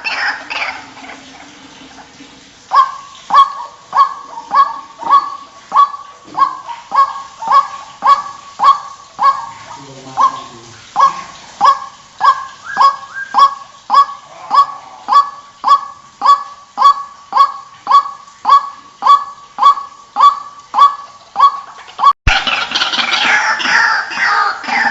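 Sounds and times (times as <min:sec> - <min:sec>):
waterhen calls: 0:00.0 - 0:24.9.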